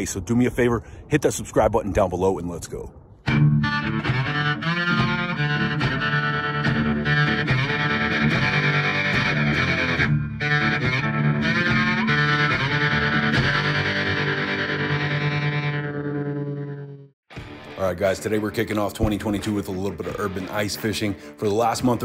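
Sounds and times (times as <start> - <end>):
distorted electric guitar music: 3.2 - 22.0.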